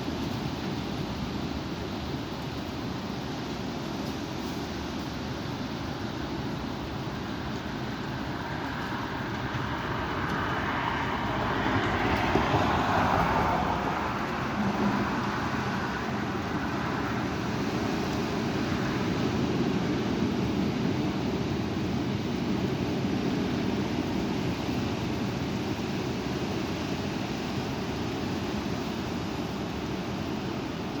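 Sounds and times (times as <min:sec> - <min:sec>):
strong wind blowing: 0:00.0 - 0:31.0.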